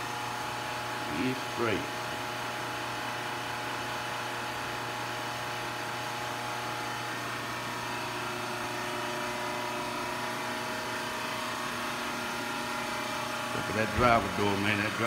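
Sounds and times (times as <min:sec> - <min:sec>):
machine hum with held tones: 0:00.0 - 0:15.0.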